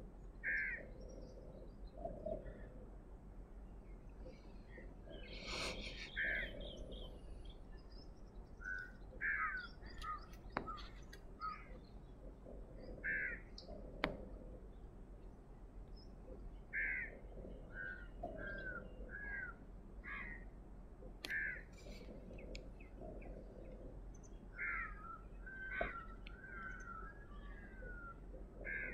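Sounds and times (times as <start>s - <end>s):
birds calling: 0.2s - 28.9s.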